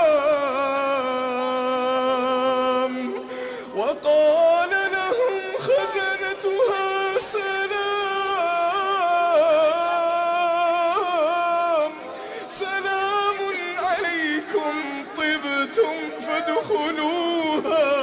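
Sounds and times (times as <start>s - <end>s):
man reciting melodically: 0.0s - 18.0s.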